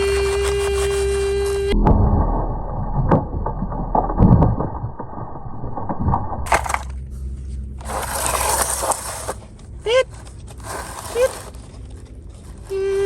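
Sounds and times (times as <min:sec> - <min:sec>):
low rumble: 0:00.7 - 0:12.8
crunching knocks and thumps: 0:01.3 - 0:12.7.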